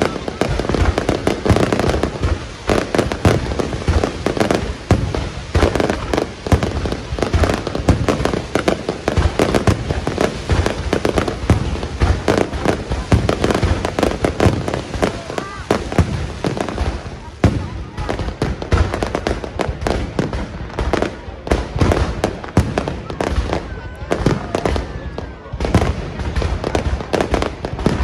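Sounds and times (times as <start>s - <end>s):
fireworks bangs and crackle: 0.0s - 28.0s.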